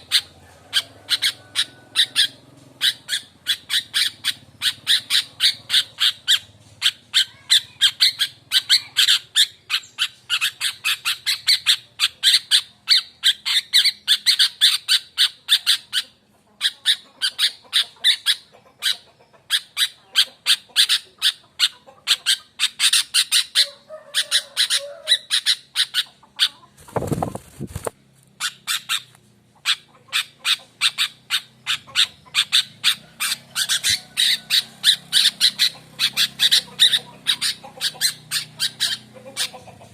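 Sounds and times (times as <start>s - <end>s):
bird calling in harsh notes: 0.0s - 39.8s.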